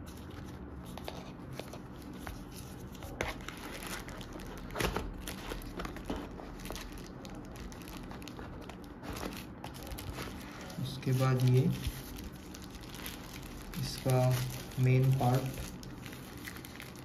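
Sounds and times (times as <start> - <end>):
plastic wrap crinkling: 0.0 - 17.0.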